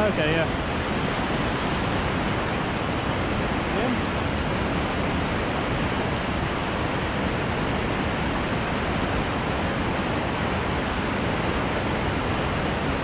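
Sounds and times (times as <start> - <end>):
whitewater rapid rushing: 0.0 - 13.0.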